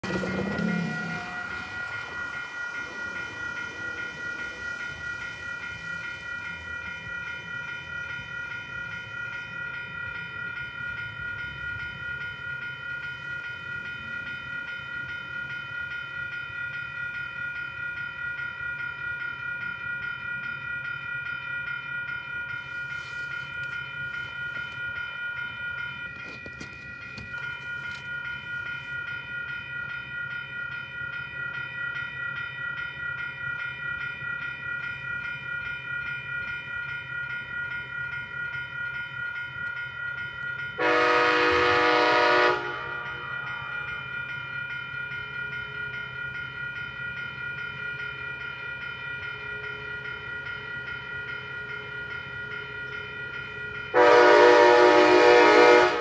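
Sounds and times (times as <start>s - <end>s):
railroad crossing bells ringing: 0.0s - 56.0s.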